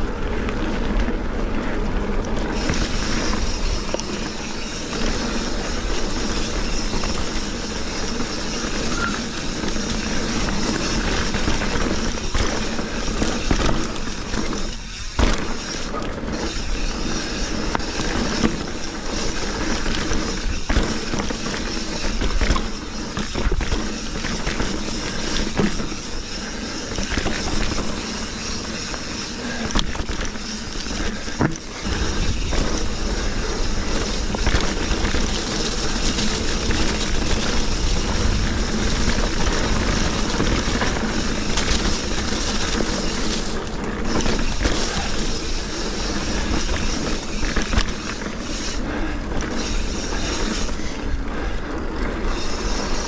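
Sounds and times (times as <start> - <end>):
bike rattling over bumps: 0.0 - 53.0
bike tyres on dirt: 0.0 - 53.0.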